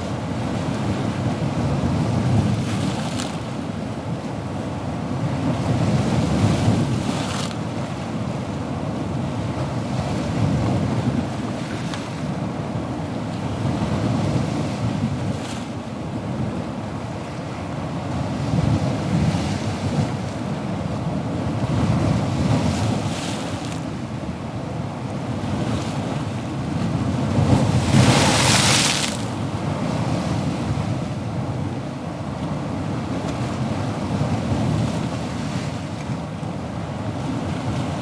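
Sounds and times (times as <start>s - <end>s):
ocean waves breaking on shore: 0.0s - 38.0s
wind rumble on microphone: 0.0s - 38.0s.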